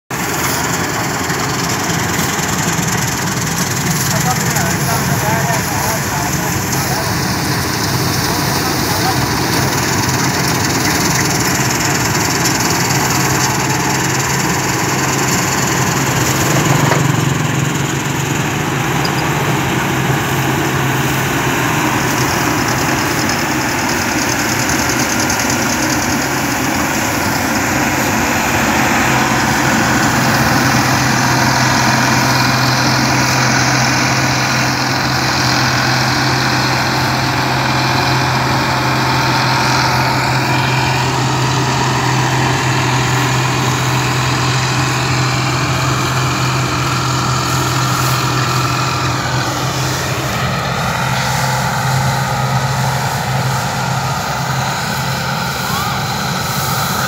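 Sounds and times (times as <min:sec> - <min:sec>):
combine harvester engine drone: 0:00.1 - 0:57.0.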